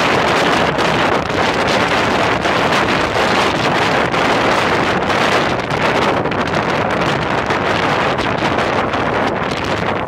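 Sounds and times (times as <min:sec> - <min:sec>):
vehicle driving noise: 0:00.0 - 0:10.0
wind buffeting microphone: 0:00.0 - 0:10.0.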